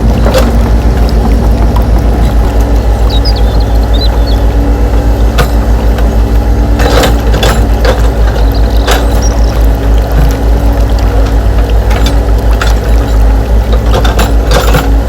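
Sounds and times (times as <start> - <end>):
excavator engine throbbing: 0.0 - 15.0.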